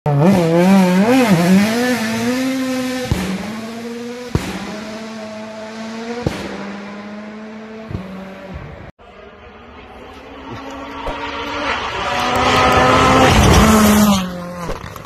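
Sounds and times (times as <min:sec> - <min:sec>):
rally car engine at high revs: 0:00.1 - 0:15.0.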